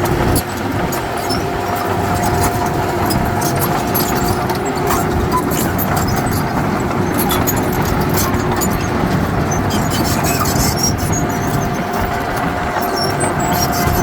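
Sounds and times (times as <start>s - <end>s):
diesel machinery rumbling: 0.0s - 14.0s
light metal clanks and clicks: 0.0s - 14.0s.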